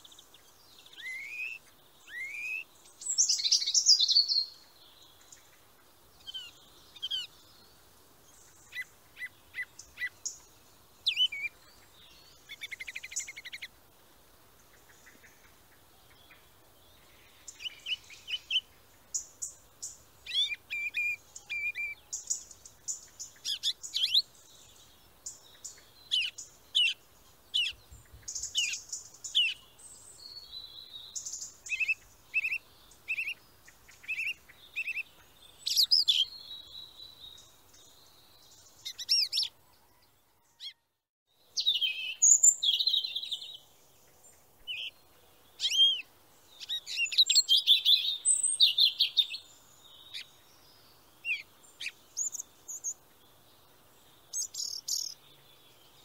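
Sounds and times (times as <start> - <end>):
songbirds chirping and whistling: 0.0 - 13.8, 14.5 - 56.0.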